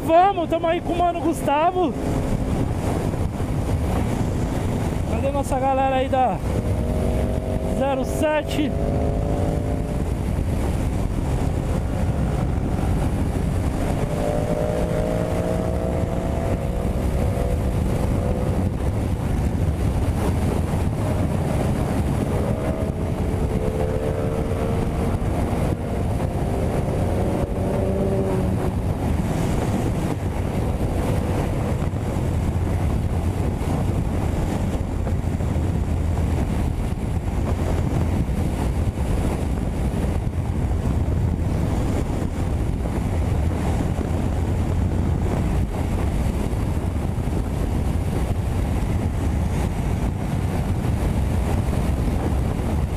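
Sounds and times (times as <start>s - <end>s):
motorcycle engine running: 0.0s - 52.9s
wind rush on microphone: 0.0s - 52.9s.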